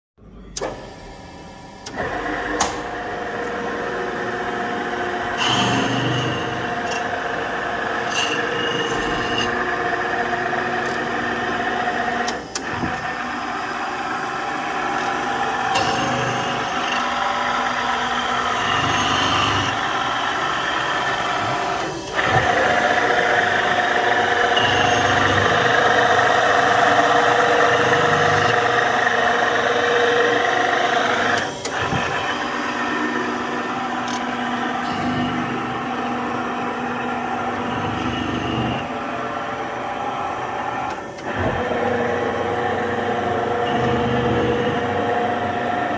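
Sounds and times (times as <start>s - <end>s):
knife-grinding machine humming: 1.7s - 45.9s.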